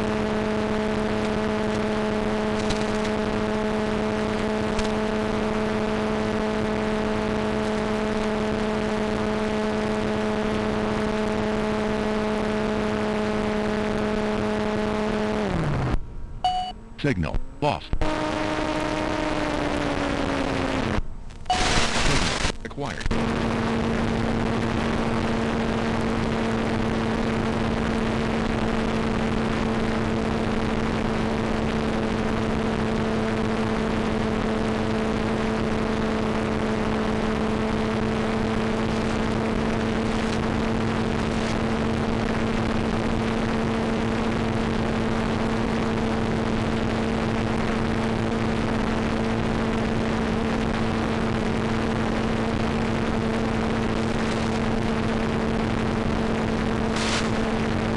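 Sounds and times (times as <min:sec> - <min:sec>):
low two-tone hum: 0:00.0 - 0:57.9.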